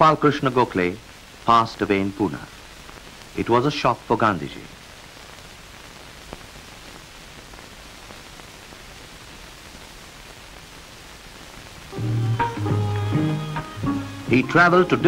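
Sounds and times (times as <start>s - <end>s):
recording noise hiss: 0.0s - 15.0s.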